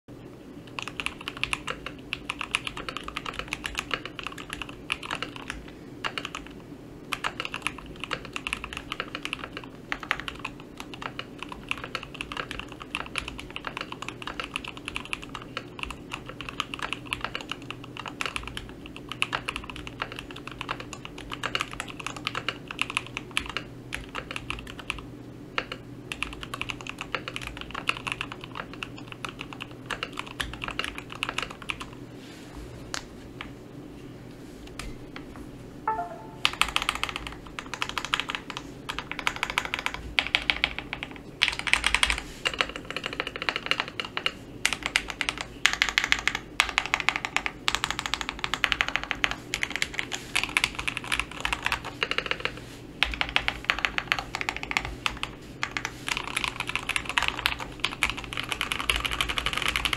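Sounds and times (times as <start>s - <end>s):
fast typing on mechanical keyboard: 0.6s - 32.0s, 36.5s - 59.9s.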